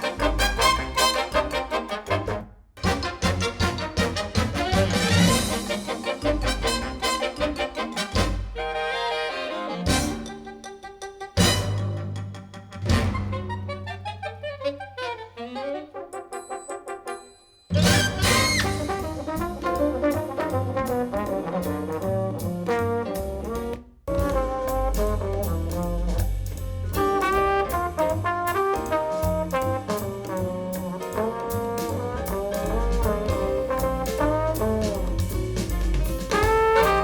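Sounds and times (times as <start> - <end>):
jazz with trombone and trumpet: 0.0 - 10.6, 11.4 - 37.0.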